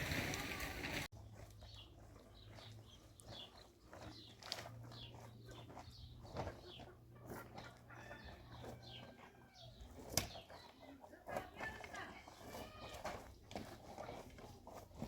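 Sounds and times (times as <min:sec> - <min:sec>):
small birds chirping: 0:01.2 - 0:15.0.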